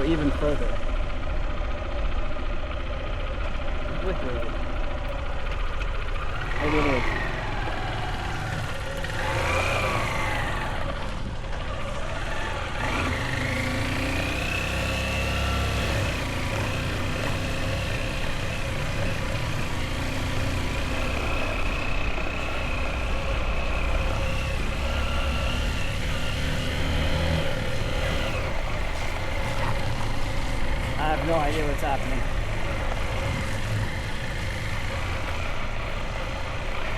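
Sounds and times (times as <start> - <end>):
motorbike engine running: 0.0 - 36.9.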